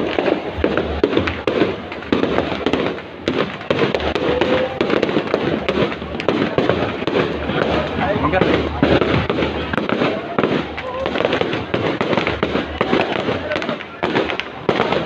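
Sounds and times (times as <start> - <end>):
fireworks cracking and popping: 0.0 - 15.0.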